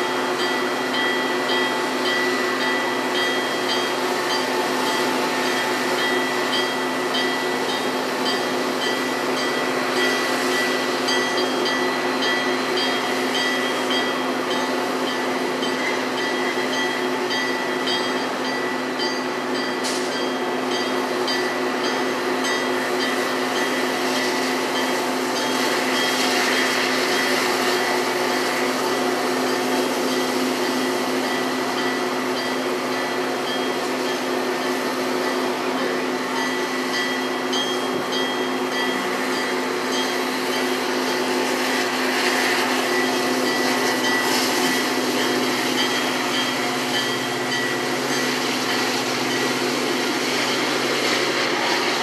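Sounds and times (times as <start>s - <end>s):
diesel locomotive engine drone: 0.0s - 52.0s
steady high whine: 0.0s - 52.0s.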